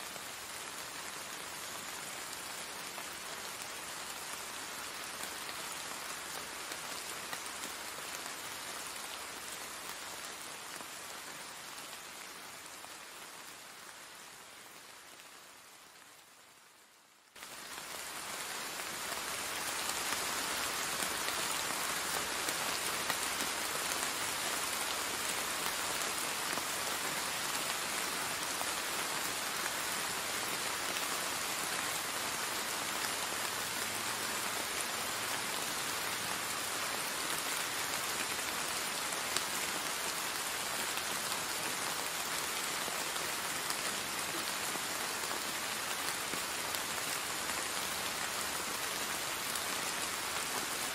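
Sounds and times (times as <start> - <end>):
rain on brick paving and plants: 0.0 - 50.9.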